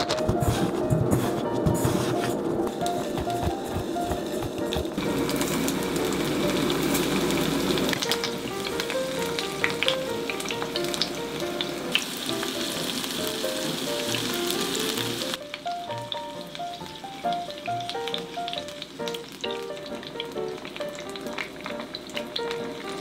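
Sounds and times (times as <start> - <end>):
shrimp sizzling in oil: 2.7 - 23.0.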